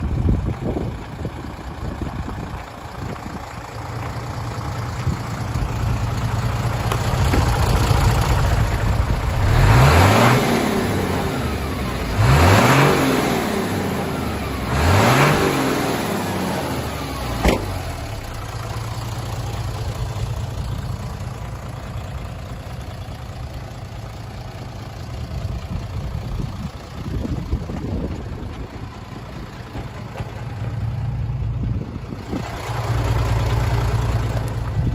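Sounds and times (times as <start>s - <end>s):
diesel truck engine idling and revving: 0.0s - 34.9s.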